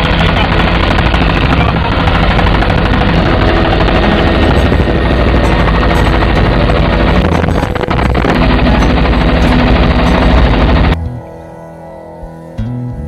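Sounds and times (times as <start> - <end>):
helicopter rotor and engine noise: 0.0 - 11.0.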